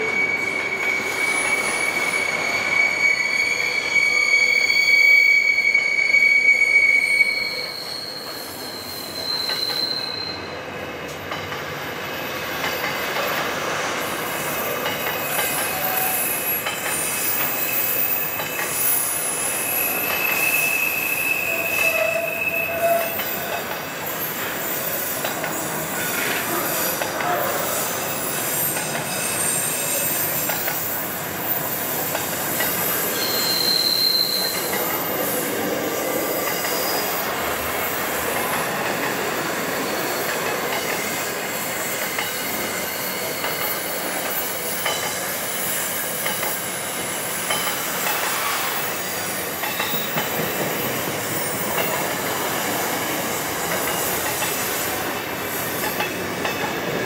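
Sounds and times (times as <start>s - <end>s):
freight train rolling: 0.0s - 57.0s
train wheels squealing on rails: 0.0s - 57.0s.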